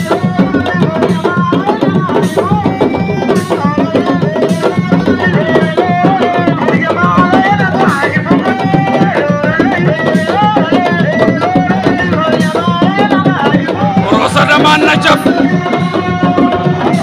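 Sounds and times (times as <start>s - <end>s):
fast drumming: 0.0s - 17.0s
person singing: 0.0s - 17.0s.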